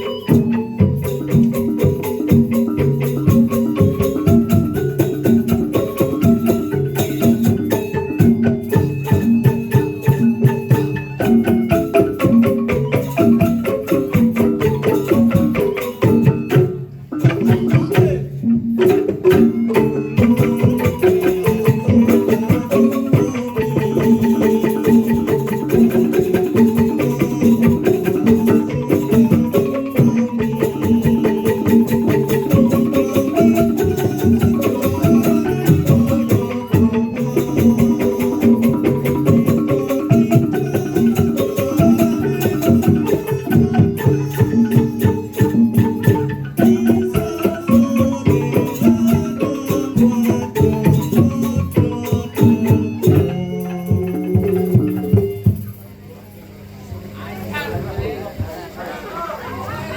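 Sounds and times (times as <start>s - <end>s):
tuned percussion ensemble music: 0.0s - 56.9s
hand percussion: 0.0s - 57.1s.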